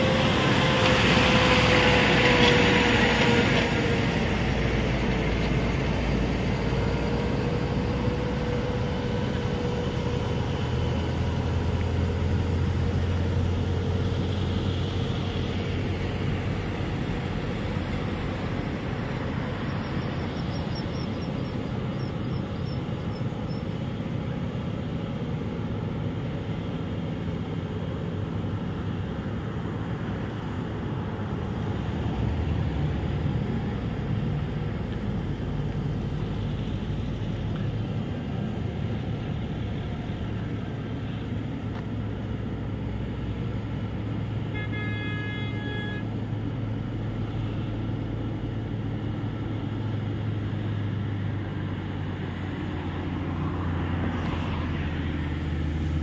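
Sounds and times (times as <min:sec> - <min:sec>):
diesel trucks passing: 0:00.0 - 0:56.0
low engine drone: 0:00.0 - 0:56.0.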